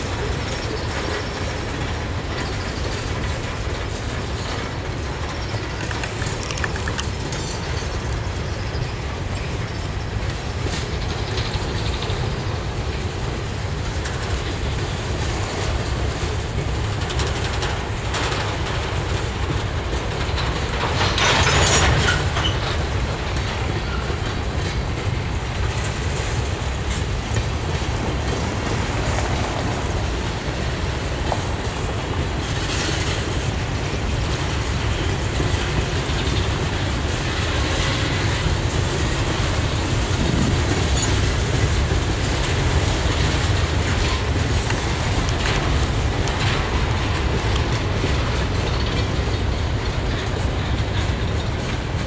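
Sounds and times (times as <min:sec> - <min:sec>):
clickety-clack over rail joints: 0:00.0 - 0:52.0
freight train wheels rumbling: 0:00.0 - 0:52.0.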